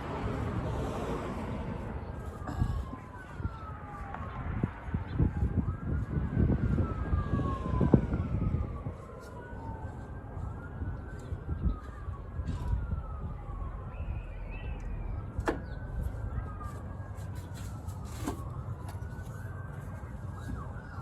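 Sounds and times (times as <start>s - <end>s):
siren wailing: 0.0s - 21.0s.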